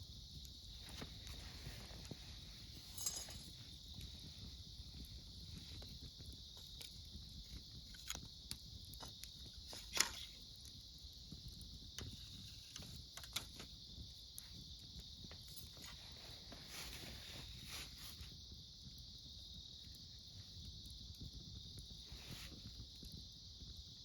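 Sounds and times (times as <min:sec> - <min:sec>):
burning wood popping: 0:00.0 - 0:24.0
insects chirring: 0:00.0 - 0:24.0
wood fire crackling: 0:00.0 - 0:24.0.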